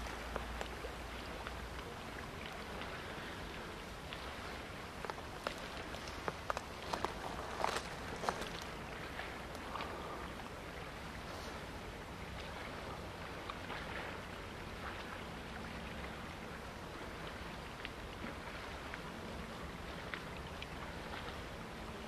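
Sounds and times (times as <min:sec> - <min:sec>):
faint ticks and splashes: 0:00.0 - 0:22.0
small waves lapping: 0:00.0 - 0:22.0.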